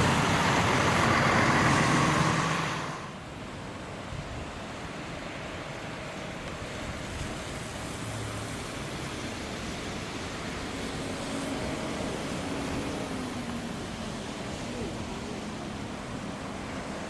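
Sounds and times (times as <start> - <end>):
road traffic: 0.0 - 17.0
wind: 0.0 - 17.0.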